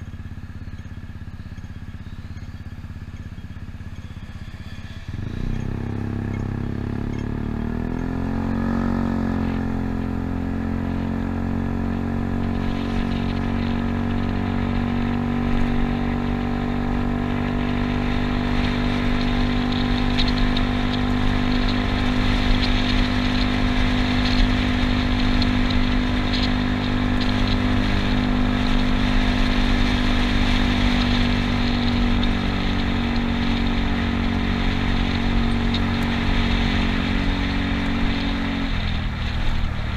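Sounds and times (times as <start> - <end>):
scooter engine pulling away: 0.0 - 39.9
wind and road noise: 0.0 - 39.9.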